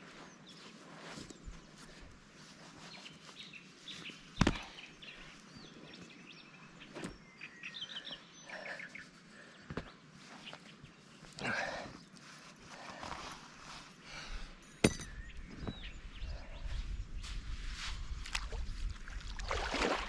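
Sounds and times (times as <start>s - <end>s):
small birds chirping: 0.0s - 19.2s.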